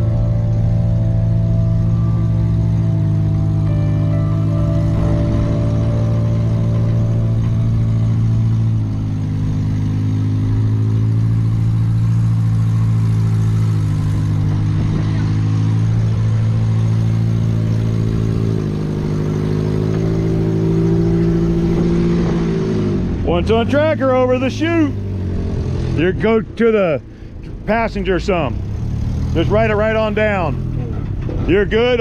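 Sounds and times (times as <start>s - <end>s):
engine running at low revs: 0.0s - 32.0s.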